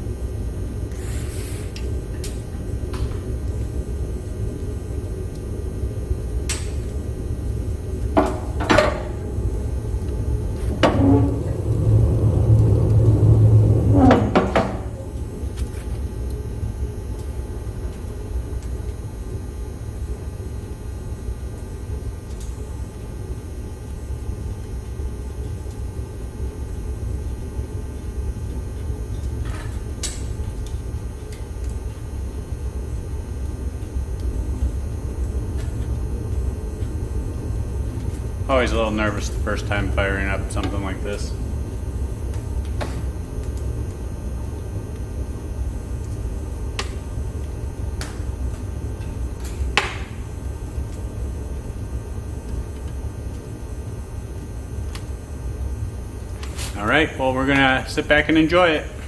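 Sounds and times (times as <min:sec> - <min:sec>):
wood fire roaring in stove: 0:00.0 - 0:59.0.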